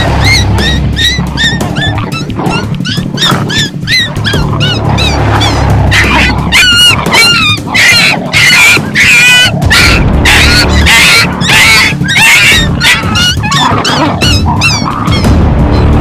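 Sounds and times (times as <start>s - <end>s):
coyote yips and howls: 0.0s - 15.9s
background music: 0.0s - 16.0s.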